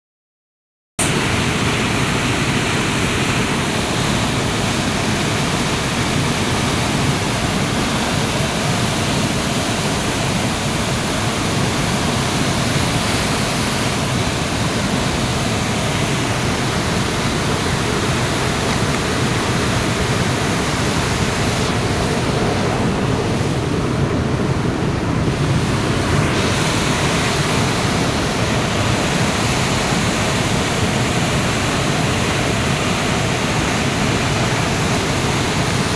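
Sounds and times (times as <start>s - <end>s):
flood water rushing: 1.0s - 35.9s.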